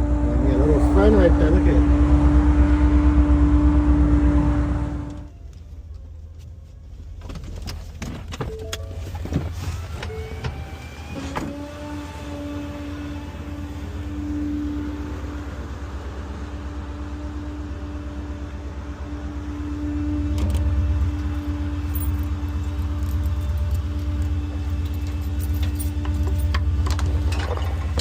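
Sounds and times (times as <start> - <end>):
truck engine rumbling with whine: 0.0 - 28.0.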